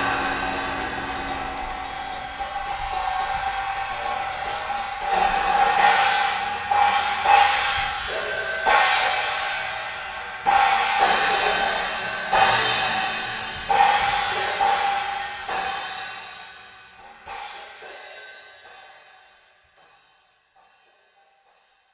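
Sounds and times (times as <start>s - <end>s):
cymbal crashes ringing: 0.0s - 19.4s.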